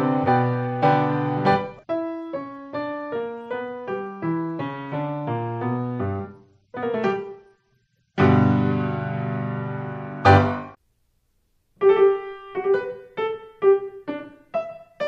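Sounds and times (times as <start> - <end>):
solo piano music: 0.0 - 7.5, 8.2 - 10.8, 11.8 - 15.0.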